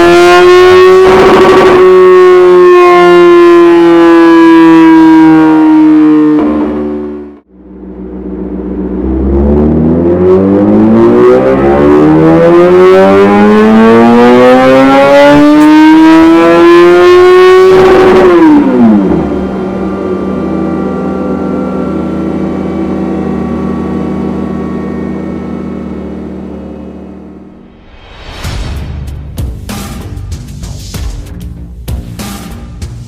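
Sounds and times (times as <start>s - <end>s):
motorcycle engine revving on a dyno: 0.0s - 28.0s.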